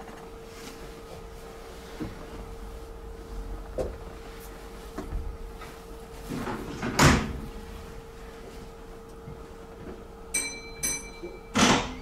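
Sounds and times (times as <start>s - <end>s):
equipment hum: 0.0s - 12.0s.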